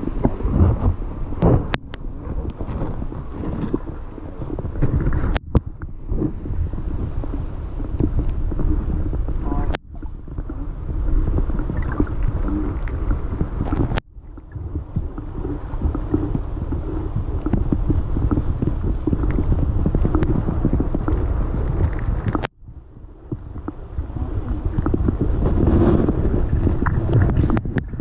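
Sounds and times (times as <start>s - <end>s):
muffled underwater river rush: 0.0s - 28.0s.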